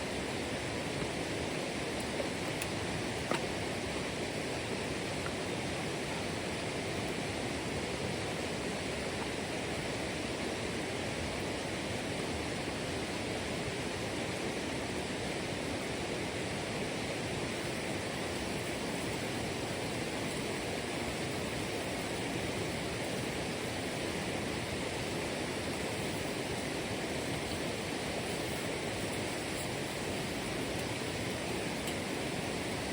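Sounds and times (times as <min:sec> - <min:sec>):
flowing water rushing: 0:00.0 - 0:32.9.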